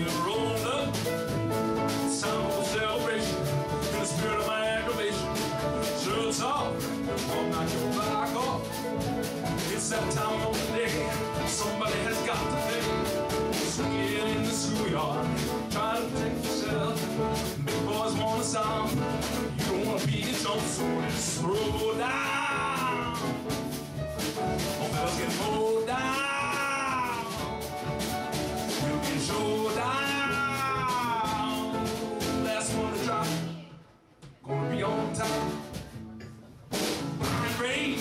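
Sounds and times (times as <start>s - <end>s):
man singing: 0.0s - 23.8s, 24.6s - 28.0s, 28.6s - 33.7s, 34.4s - 35.8s, 37.2s - 38.0s
piano accompaniment: 0.0s - 33.8s, 34.4s - 38.0s.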